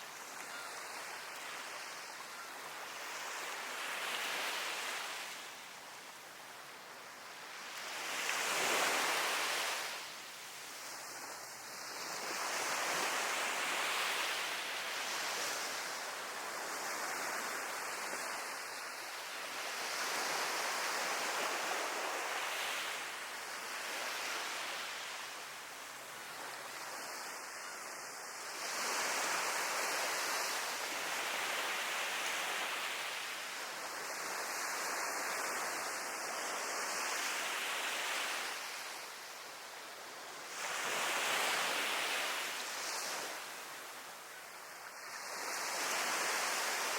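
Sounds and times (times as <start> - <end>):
sea waves breaking on shore: 6.8 - 46.9.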